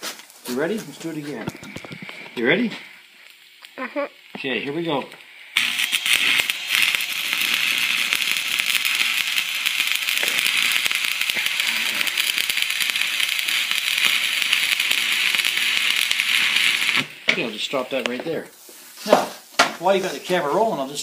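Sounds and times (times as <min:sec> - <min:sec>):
welding arc crackling and hissing: 0:00.0 - 0:21.0.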